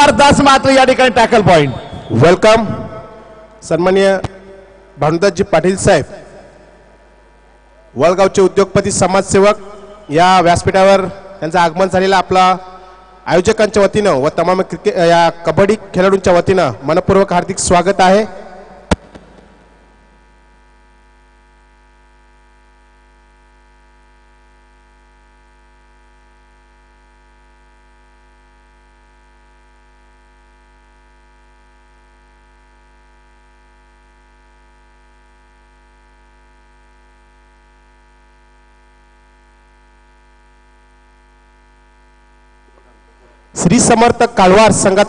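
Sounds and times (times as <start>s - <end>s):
faint electrical hum and buzz: 0.0s - 45.0s.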